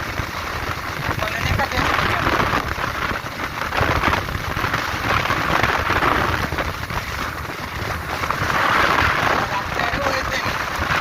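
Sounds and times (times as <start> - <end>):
motorcycle riding at speed: 0.0 - 11.0
wind and rain on microphone: 0.0 - 11.0.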